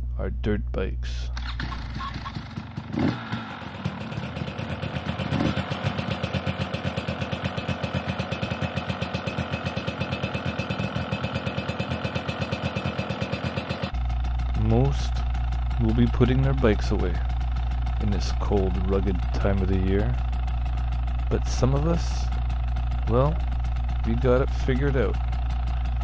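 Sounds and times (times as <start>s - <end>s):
dirt bike engine idling: 1.2s - 26.0s.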